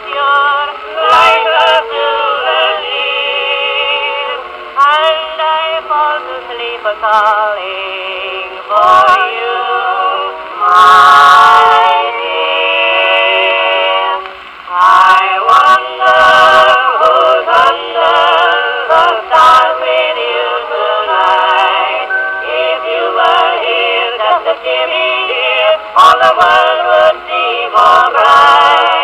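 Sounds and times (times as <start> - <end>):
music from wind-up phonograph: 0.0 - 29.0.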